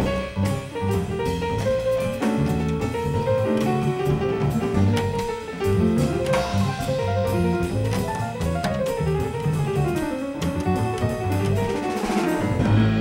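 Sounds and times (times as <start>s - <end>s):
drum kit: 0.0s - 13.0s
piano: 0.0s - 13.0s
upright double bass plucked: 0.0s - 13.0s.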